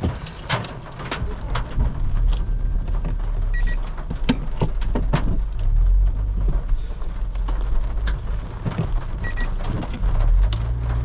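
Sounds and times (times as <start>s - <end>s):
hail knocking on car roof: 0.0s - 11.0s
moving car rumble: 0.0s - 11.0s.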